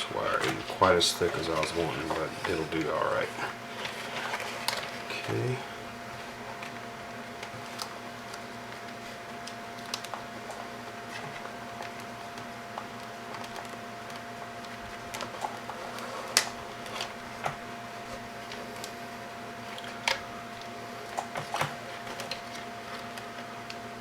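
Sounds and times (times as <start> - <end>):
faint electrical hum: 0.0 - 24.0.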